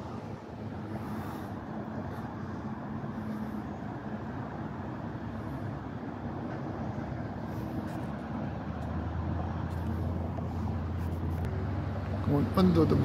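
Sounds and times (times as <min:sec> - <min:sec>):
road traffic rumbling: 0:00.0 - 0:13.0.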